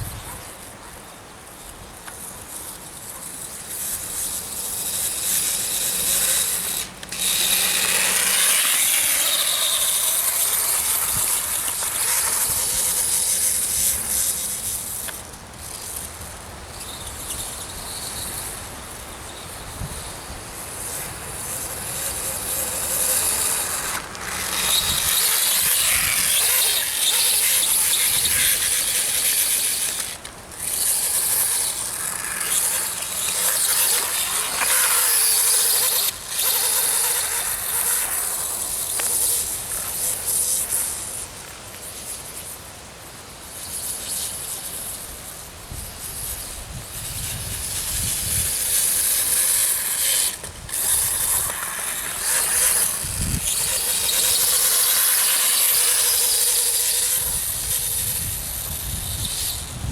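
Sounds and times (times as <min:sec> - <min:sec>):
rc dirt bike motor whine: 0:00.0 - 0:59.9.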